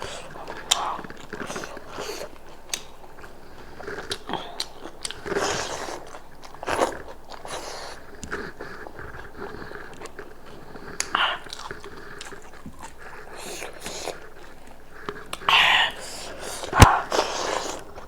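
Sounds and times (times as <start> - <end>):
chewing and biting meat: 0.0 - 18.0
mouth clicks and crunches: 0.0 - 18.0.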